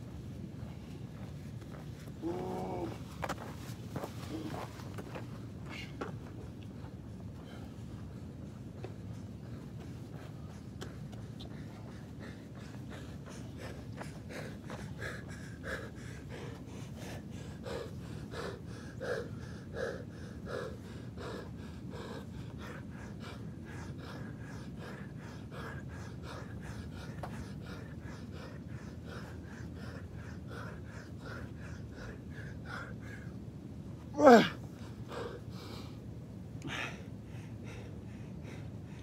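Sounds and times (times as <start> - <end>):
man breathing hard and fast: 0.1 - 39.0.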